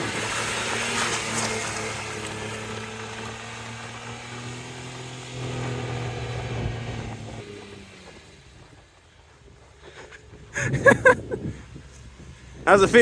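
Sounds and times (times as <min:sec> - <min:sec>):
car engine at steady revs: 0:00.0 - 0:12.6.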